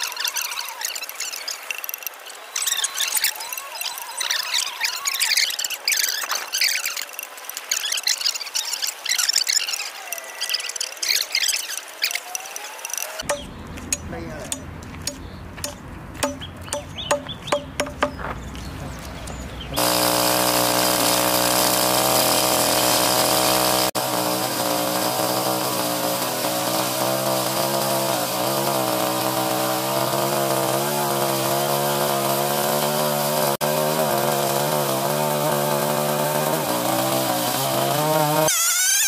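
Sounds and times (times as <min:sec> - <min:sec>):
chainsaw cutting log: 0:00.0 - 0:07.9, 0:08.5 - 0:18.2, 0:19.8 - 0:39.0.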